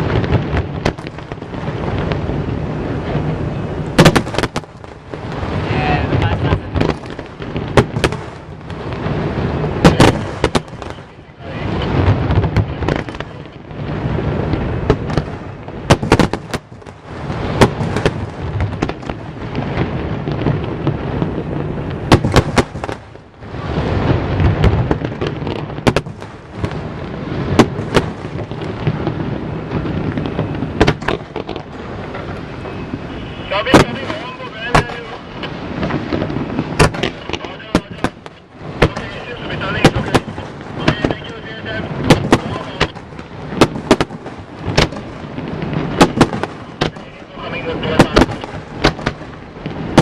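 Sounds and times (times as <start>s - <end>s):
fireworks bangs: 0.0s - 50.0s
rumbling crackling fireworks: 0.0s - 50.0s.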